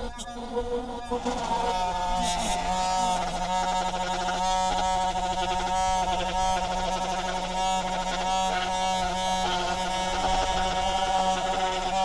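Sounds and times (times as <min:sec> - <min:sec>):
rotary tool grinding wood: 0:00.0 - 0:12.0.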